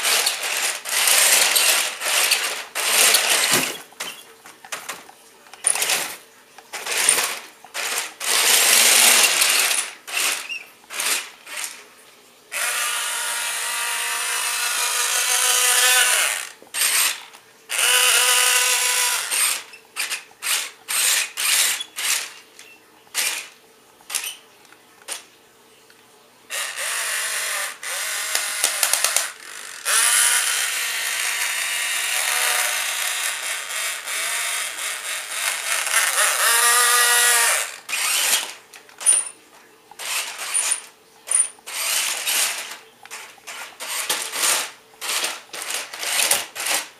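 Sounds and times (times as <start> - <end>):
toy car motors whining: 0.0 - 11.8, 12.5 - 24.4, 26.5 - 46.9.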